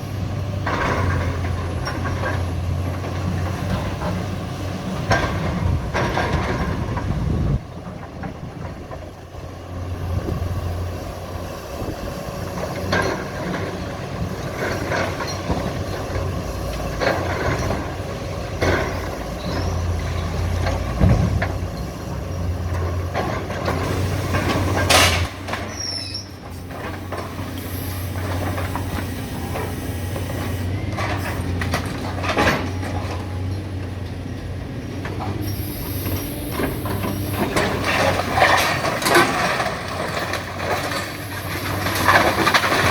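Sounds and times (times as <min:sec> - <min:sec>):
excavator diesel engine running: 0:00.0 - 0:42.9
demolition clanks and crashes: 0:00.4 - 0:09.6, 0:12.5 - 0:27.6, 0:30.9 - 0:35.4, 0:36.4 - 0:42.9.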